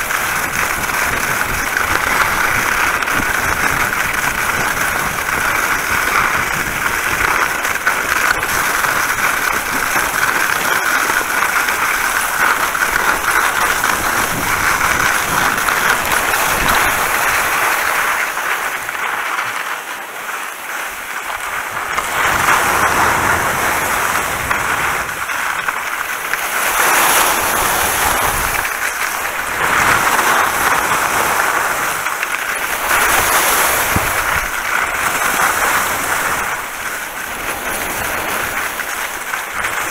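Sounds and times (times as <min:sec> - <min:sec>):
wind rushing over microphone: 0:00.0 - 0:19.7, 0:20.5 - 0:39.9
skis scraping over wet snow: 0:00.0 - 0:39.9.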